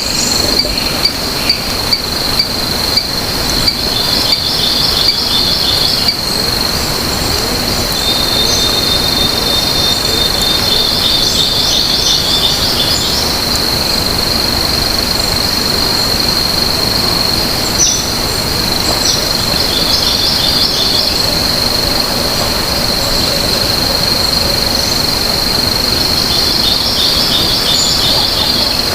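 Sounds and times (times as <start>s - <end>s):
birds chirping: 0.0s - 28.9s
high-pitched insect drone: 0.0s - 28.9s.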